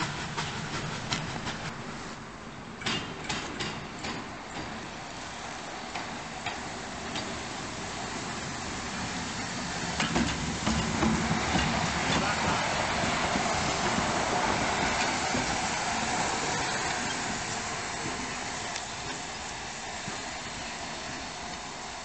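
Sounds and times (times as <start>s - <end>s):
steam locomotive rumble: 0.0s - 22.0s
train wheels clicking over rail joints: 0.0s - 22.0s.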